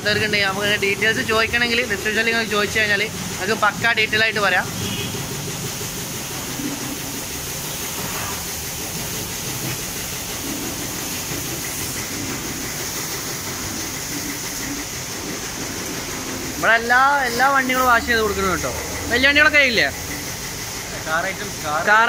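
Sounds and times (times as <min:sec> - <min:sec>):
pressure washer water jet hissing: 0:00.0 - 0:22.0
pump humming: 0:00.0 - 0:22.0.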